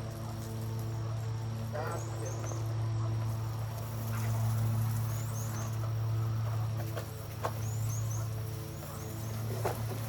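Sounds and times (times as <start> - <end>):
machine low hum: 0.0 - 10.0.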